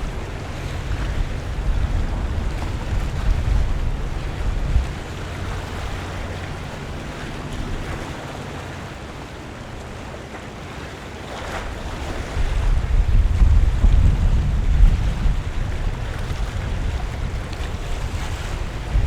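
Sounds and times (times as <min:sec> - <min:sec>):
wind buffeting microphone: 0:00.0 - 0:10.1, 0:11.3 - 0:19.0
water lapping against waterfront: 0:00.0 - 0:19.0.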